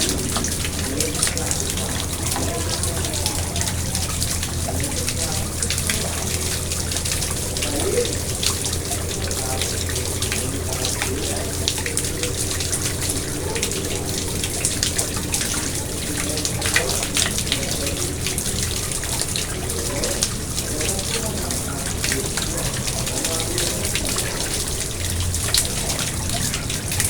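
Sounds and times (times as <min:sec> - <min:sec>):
pond water splashing and trickling: 0:00.0 - 0:27.0.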